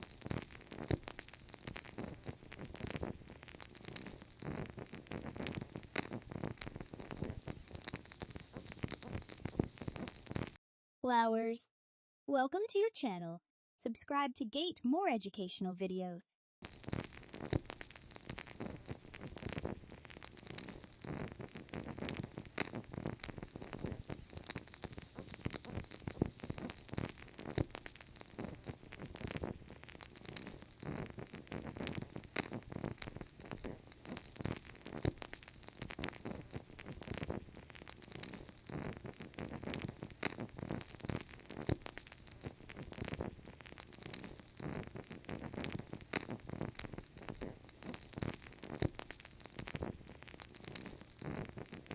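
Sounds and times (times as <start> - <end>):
wood fire crackling: 0.0 - 10.6, 16.6 - 51.9.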